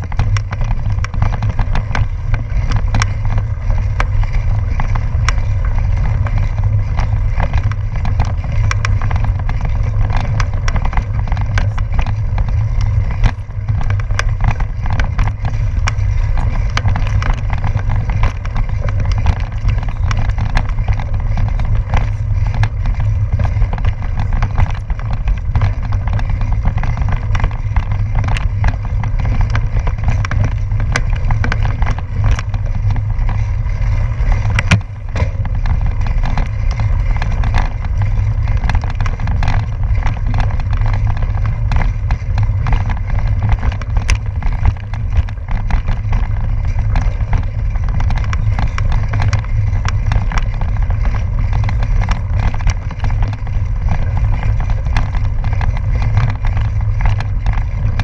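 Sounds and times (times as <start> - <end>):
wind and road rumble: 0.0 - 58.0.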